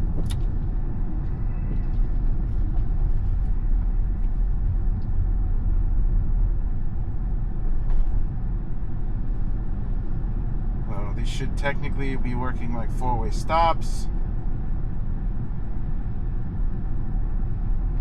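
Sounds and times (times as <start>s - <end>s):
road and wind noise in car: 0.0s - 18.0s.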